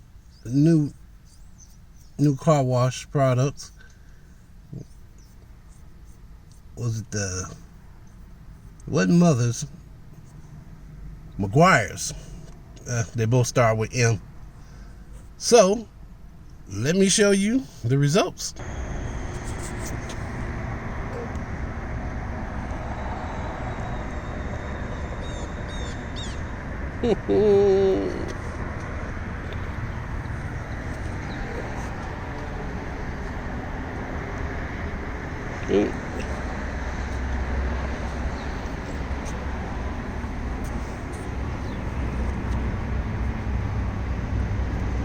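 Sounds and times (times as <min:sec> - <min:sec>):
low outdoor rumble: 0:00.0 - 0:45.0.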